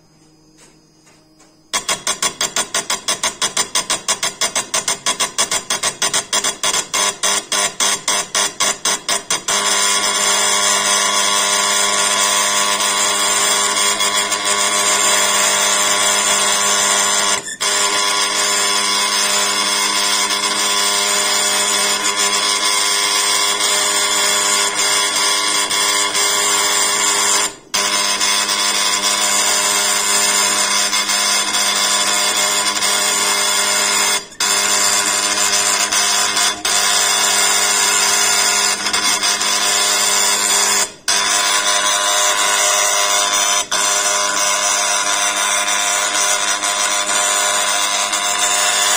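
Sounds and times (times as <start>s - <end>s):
engraving machine hammering stone: 1.7s - 48.9s.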